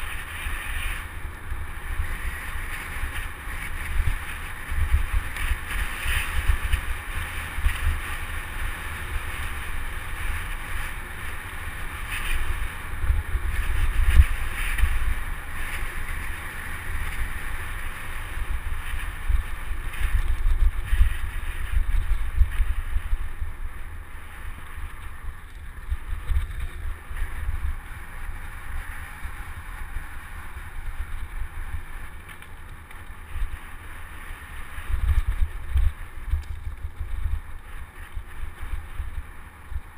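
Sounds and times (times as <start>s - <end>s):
bike tyres rolling on gravel: 0.0s - 39.9s
wind buffeting microphone: 0.0s - 39.9s.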